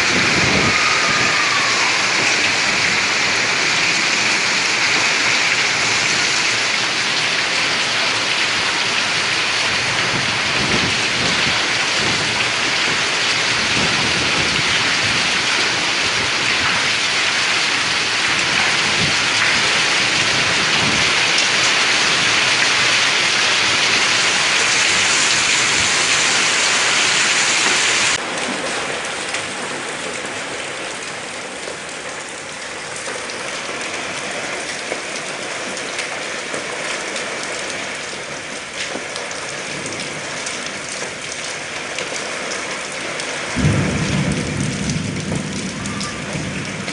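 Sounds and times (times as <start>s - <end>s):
heavy rain and hail: 0.0s - 46.9s.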